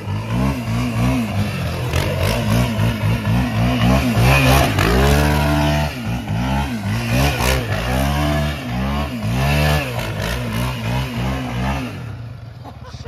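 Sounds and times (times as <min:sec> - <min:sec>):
quad engine revving: 0:00.0 - 0:12.5.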